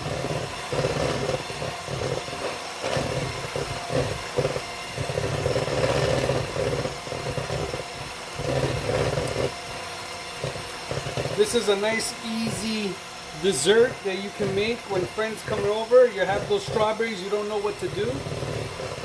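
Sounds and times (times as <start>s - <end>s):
electric hand mixer whipping cream: 0.0s - 19.0s.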